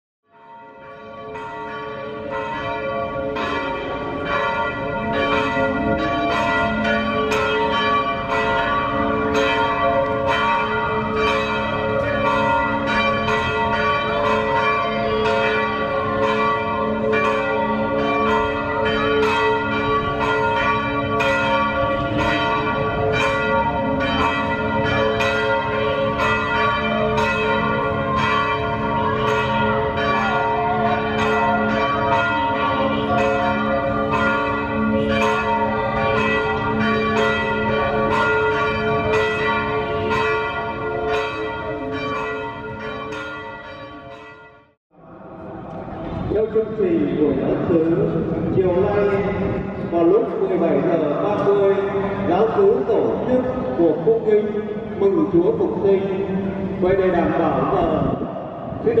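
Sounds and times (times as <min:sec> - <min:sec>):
church bells ringing: 0:00.3 - 0:59.0.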